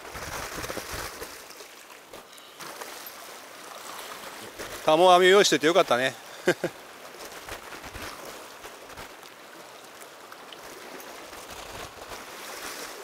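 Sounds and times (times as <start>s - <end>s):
water washing over rocks: 0.0s - 13.0s.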